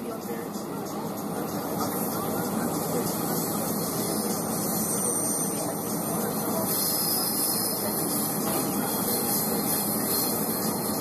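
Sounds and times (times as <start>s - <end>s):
passenger train rumble and hiss: 0.0s - 11.0s.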